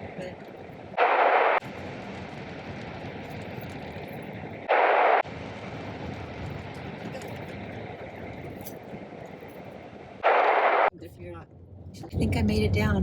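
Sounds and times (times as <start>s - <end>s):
car driving low rumble: 0.0s - 13.0s.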